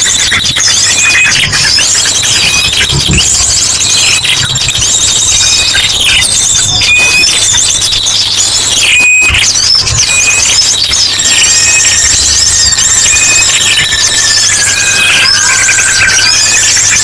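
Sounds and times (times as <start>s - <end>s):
drongo calls: 0.0s - 17.0s
small birds chattering and trilling: 0.0s - 17.0s.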